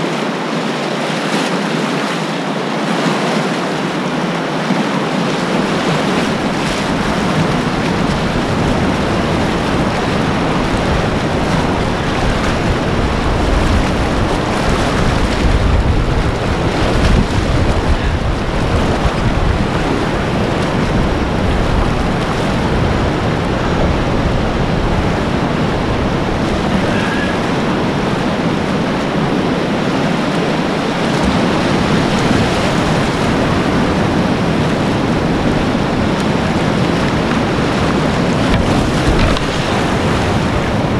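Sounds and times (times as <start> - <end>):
whitewater rapid rushing: 0.0 - 40.9.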